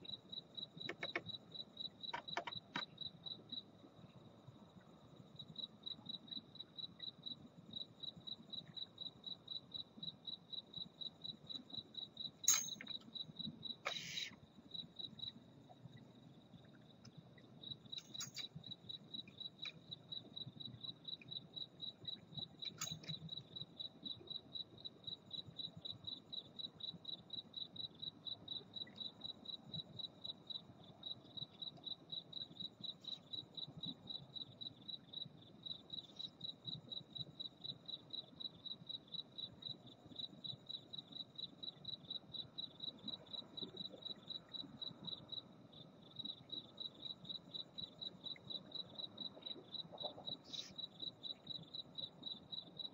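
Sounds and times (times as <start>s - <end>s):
cricket chirping: 0.0s - 52.9s.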